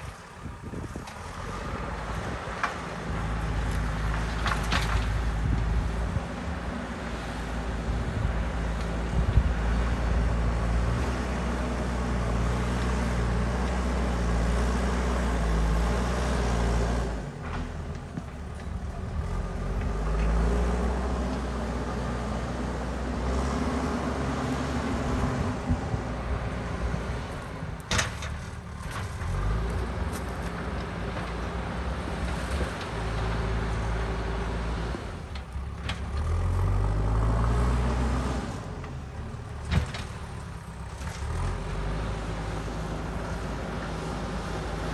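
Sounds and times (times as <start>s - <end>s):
backhoe diesel engine working: 0.0s - 44.9s.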